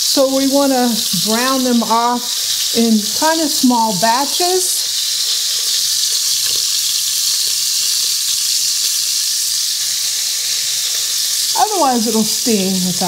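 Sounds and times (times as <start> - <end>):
meat sizzling in grease: 0.0 - 13.0.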